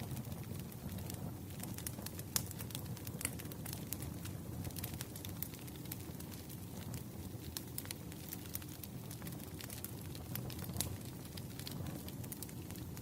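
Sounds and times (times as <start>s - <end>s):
log fire crackling and popping: 0.0s - 13.0s.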